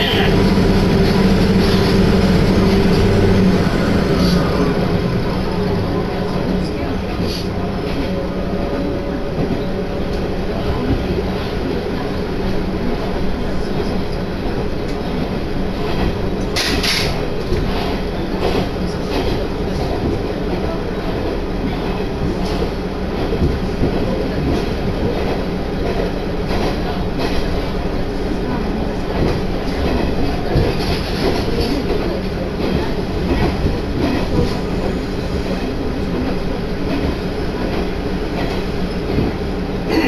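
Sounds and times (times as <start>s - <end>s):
railcar engine rumble: 0.0s - 40.0s.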